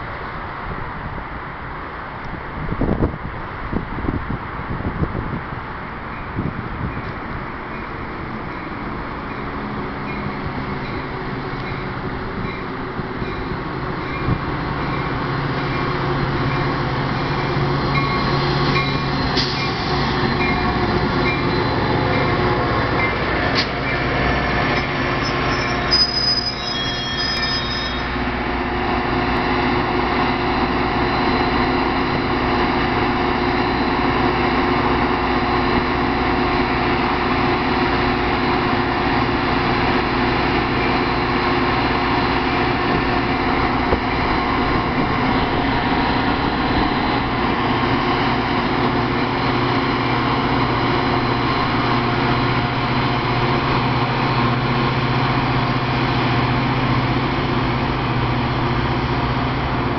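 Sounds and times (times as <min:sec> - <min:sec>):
diesel locomotive engine drone: 0:00.0 - 0:59.9
rumble of rolling train cars: 0:00.0 - 0:59.9.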